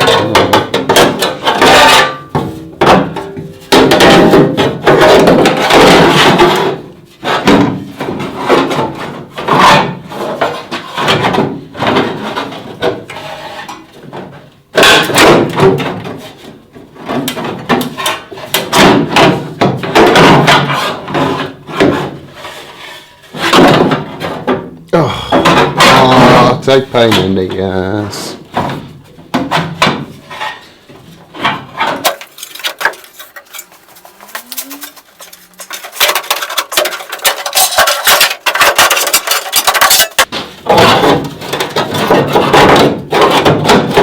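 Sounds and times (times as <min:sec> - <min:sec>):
metal tray clattering and scraping: 0:00.0 - 0:24.6, 0:25.4 - 0:44.0.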